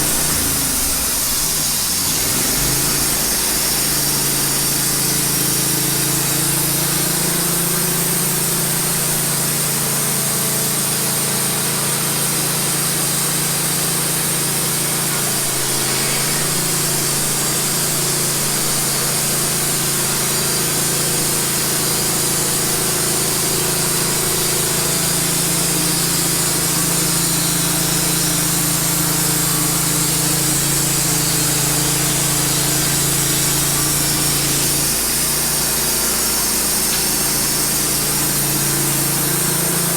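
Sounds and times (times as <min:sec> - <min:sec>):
saw blade cutting log: 0:00.0 - 0:09.7, 0:12.8 - 0:39.9
sawmill engine hum: 0:00.0 - 0:39.9.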